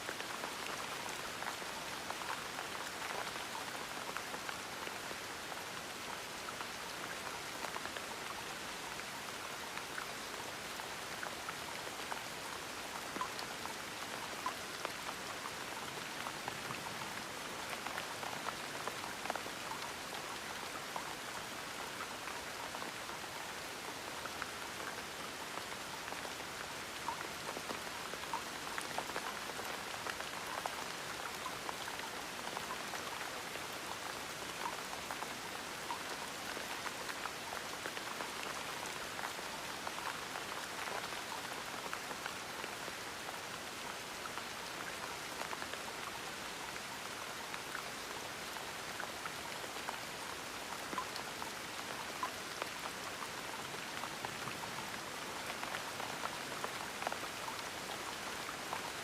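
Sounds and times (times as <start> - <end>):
gentle rain: 0.0 - 59.0
raindrops pattering on surface: 0.0 - 59.0.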